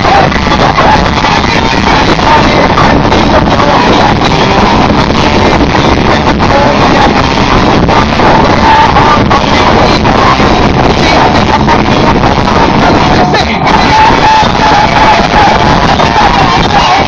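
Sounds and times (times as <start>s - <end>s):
distorted live rock band: 0.0s - 17.0s.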